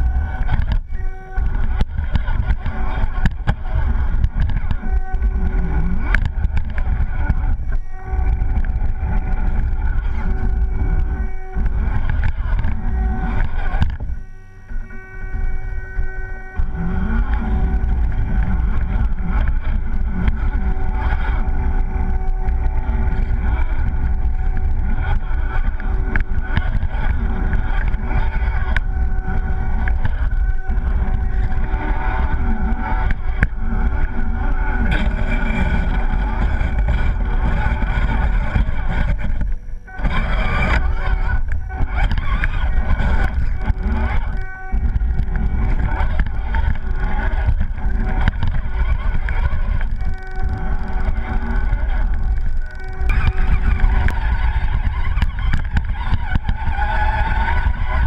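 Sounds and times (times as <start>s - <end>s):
low rumble of body shaking: 0.0s - 58.0s
rc motor and gears whining: 0.0s - 58.0s.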